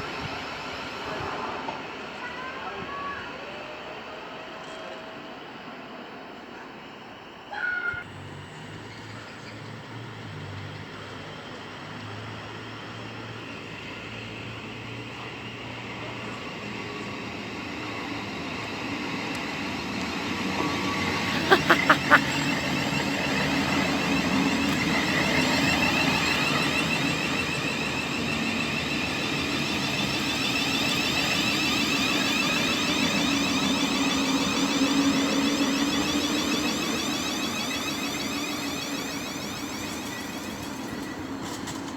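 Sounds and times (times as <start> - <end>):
train running through station: 0.0 - 21.3, 22.2 - 41.9.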